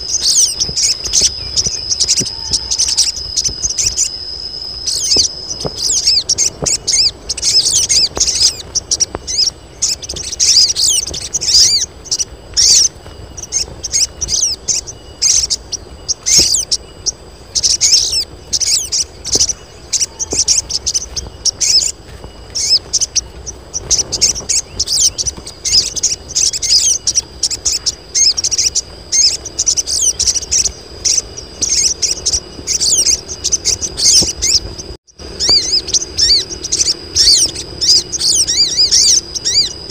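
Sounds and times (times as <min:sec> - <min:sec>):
sunbirds chirping and twittering: 0:00.0 - 0:39.9.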